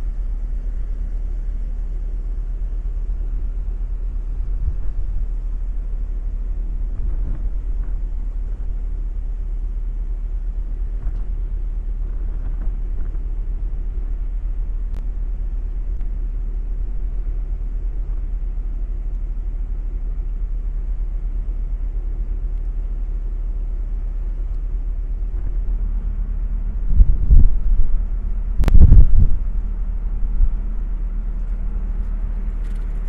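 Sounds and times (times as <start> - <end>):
ship moving through ice rumble: 0.0 - 33.0.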